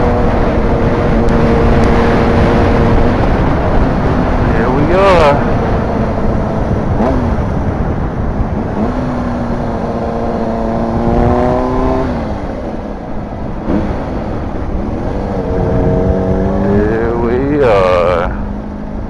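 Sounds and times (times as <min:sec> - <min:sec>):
motorcycle engine: 0:00.0 - 0:19.0
wind rumble on microphone: 0:00.0 - 0:19.0.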